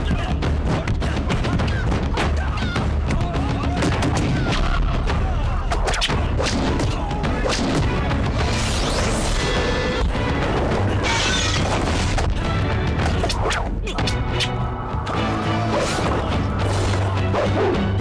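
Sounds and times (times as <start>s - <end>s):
dramatic film music: 0.0s - 18.0s.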